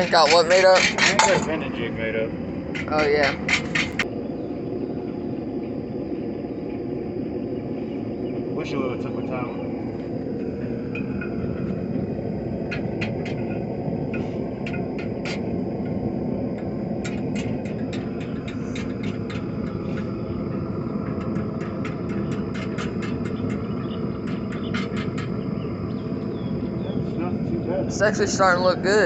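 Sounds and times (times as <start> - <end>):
gas forge rumbling: 0.0 - 29.0.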